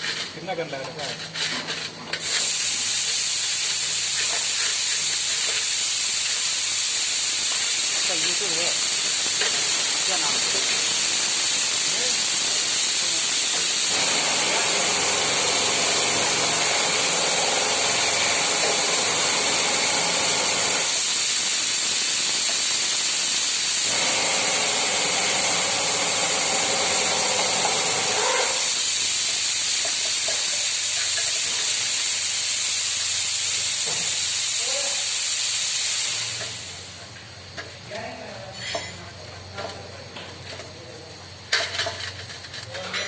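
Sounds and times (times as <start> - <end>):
loud steady hissing: 0.0 - 42.7.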